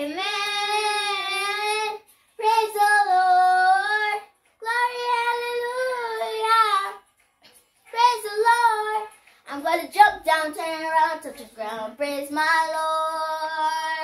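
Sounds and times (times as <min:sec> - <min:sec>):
girl singing unaccompanied: 0:00.0 - 0:07.1, 0:07.9 - 0:14.0.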